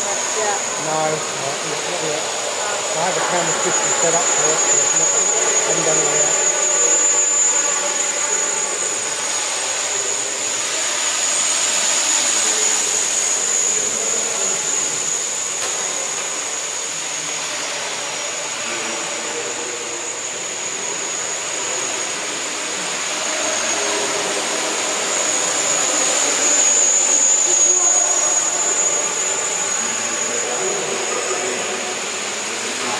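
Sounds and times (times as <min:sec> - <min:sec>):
drone propellers whirring: 0:00.0 - 0:32.9.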